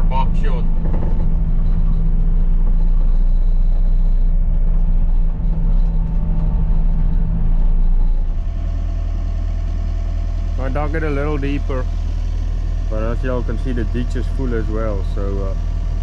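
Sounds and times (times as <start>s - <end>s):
heavy vehicle engine idling: 0.0s - 16.0s.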